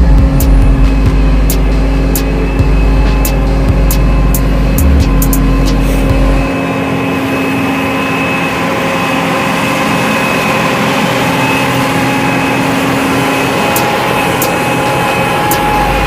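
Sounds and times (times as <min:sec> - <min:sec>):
machine whine over rushing noise: 0:00.0 - 0:16.0.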